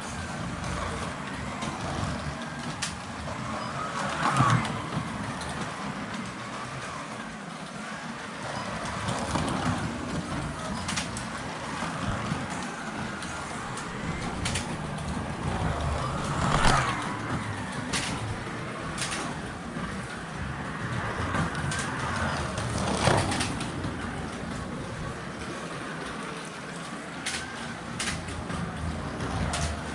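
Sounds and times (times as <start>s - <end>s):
slot car motors whining: 0.0s - 26.1s.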